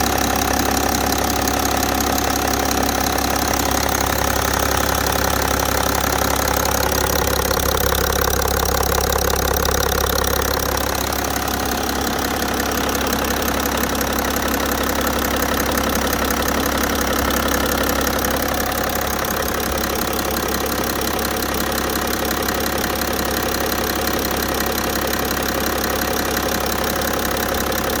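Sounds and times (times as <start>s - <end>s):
diesel engine idling with knock: 0.0s - 28.0s.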